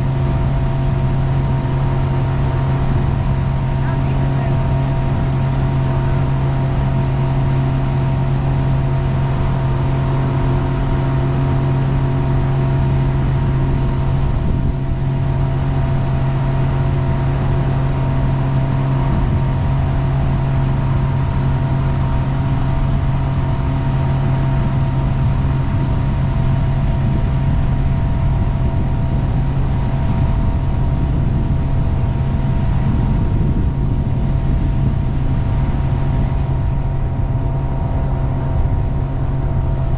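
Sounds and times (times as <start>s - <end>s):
boat engine drone: 0.0s - 39.9s
rush of noise: 0.0s - 39.9s.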